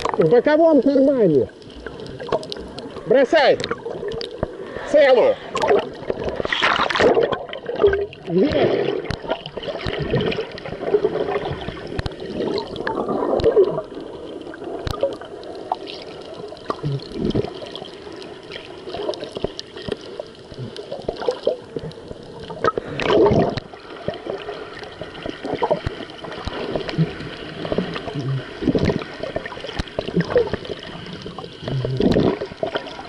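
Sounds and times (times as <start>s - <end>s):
underwater gurgling and bubbling: 0.0s - 33.0s.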